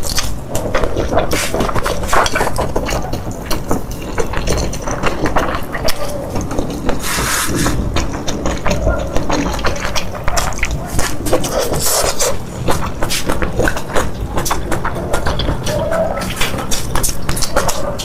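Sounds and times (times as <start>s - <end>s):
mouth smacks and clicks: 0.0s - 18.0s
wet chewing and slurping: 0.0s - 18.0s.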